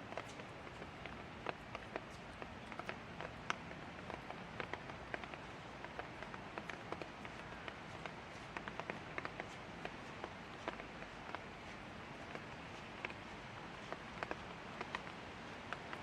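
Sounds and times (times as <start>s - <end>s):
light rain hiss: 0.0s - 16.0s
raindrops ticking on a surface: 0.0s - 16.0s.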